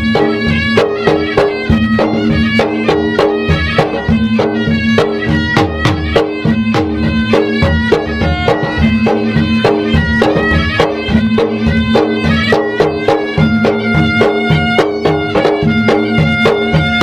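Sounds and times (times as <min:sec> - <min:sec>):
gendang drums beating fast rhythm: 0:00.0 - 0:17.0
reedy wind instrument melody: 0:00.0 - 0:17.0.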